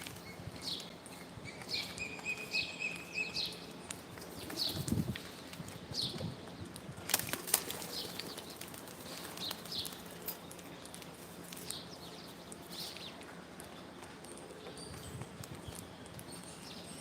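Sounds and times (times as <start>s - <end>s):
birds chirping: 0.1s - 6.5s, 7.5s - 15.0s.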